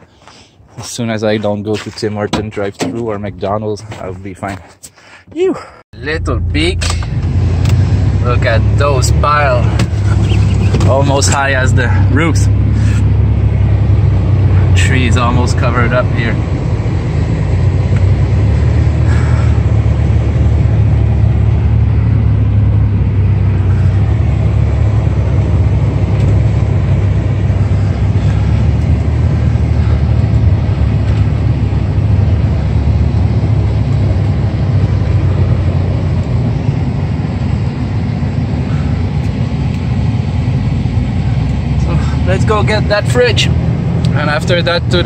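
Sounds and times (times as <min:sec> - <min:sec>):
road noise: 0:00.0 - 0:45.0
truck engine drone: 0:05.5 - 0:45.0.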